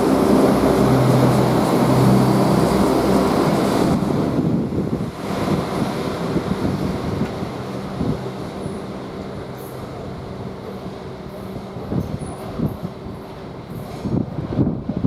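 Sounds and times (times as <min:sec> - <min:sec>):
train engine humming: 0:00.0 - 0:15.0
train rumble: 0:00.0 - 0:15.0.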